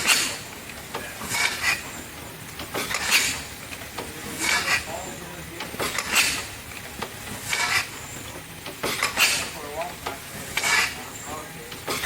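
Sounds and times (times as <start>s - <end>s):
steam engine chuffing: 0.0s - 12.0s
valve-gear clatter: 0.0s - 12.0s.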